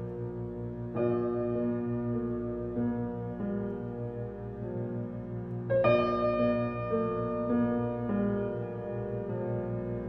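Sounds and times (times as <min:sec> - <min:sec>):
ambient music with sustained chords: 0:00.0 - 0:10.0.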